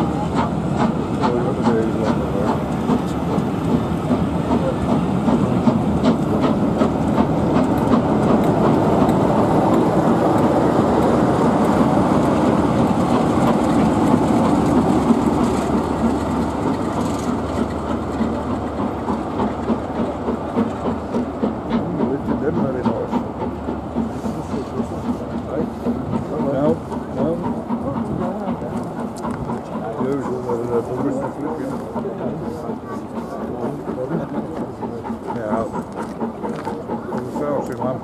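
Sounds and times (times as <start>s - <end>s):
diesel locomotive passing: 0.0s - 38.0s
train wheels clicking over rail joints: 0.0s - 38.0s.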